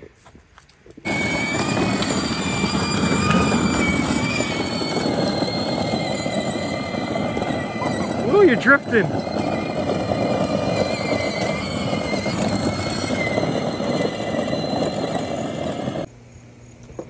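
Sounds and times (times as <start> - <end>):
wheels scraping on asphalt: 1.0 - 16.1
electric motor whine: 1.1 - 16.1.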